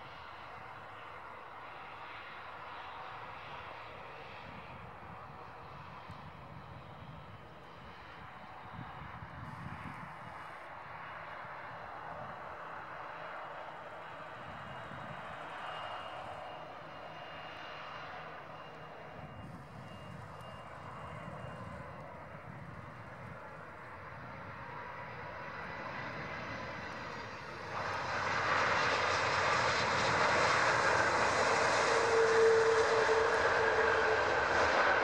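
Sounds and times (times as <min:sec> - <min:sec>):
jet engines rushing: 0:00.0 - 0:35.0
steady engine whine: 0:00.0 - 0:35.0.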